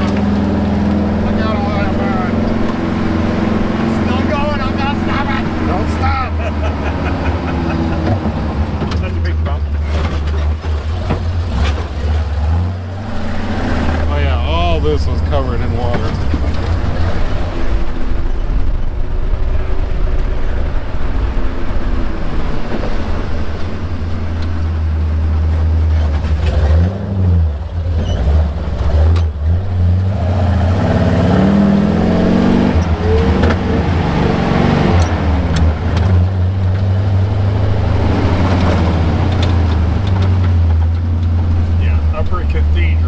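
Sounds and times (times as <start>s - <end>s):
road noise: 0.0s - 43.0s
truck engine and drivetrain drone: 0.0s - 43.0s.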